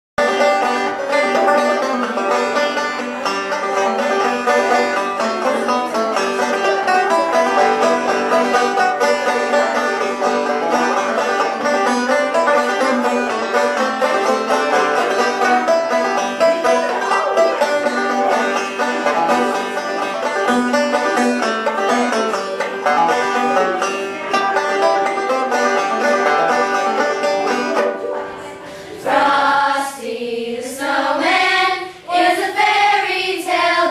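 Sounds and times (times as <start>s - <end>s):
banjo playing: 0.2s - 29.9s.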